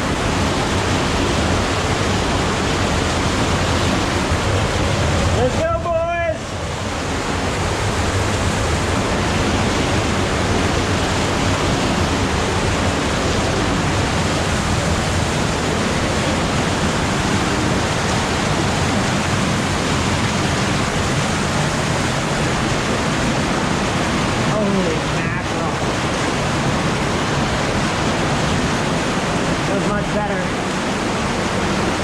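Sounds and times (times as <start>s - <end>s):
underground river rushing: 0.0s - 32.0s.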